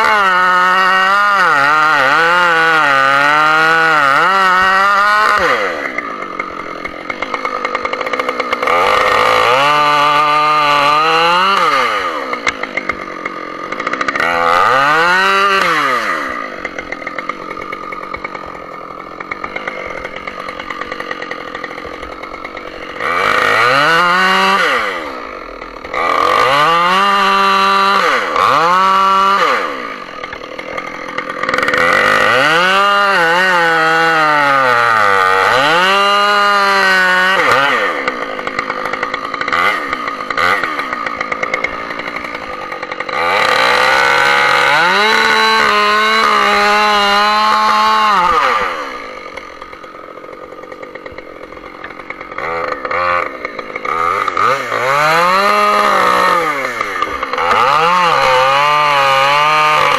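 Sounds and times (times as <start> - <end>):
chainsaw cutting tree trunk: 0.0 - 59.9.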